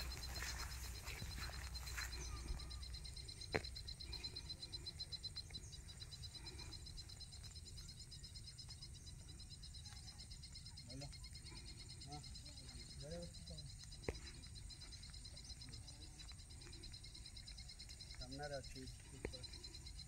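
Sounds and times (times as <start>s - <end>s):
faint voices: 0.0s - 20.0s
insects trilling: 0.0s - 20.0s.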